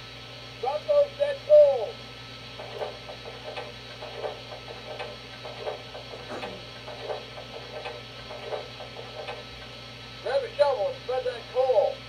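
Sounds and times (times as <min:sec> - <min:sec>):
soft steam locomotive pulses: 0:00.0 - 0:12.0
steady electrical hum: 0:00.0 - 0:12.0.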